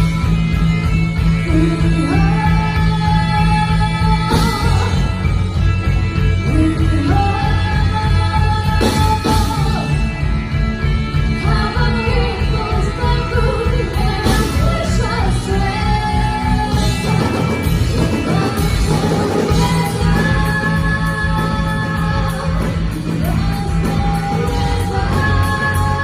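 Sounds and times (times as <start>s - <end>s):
bass: 0.0s - 26.0s
drums: 0.0s - 26.0s.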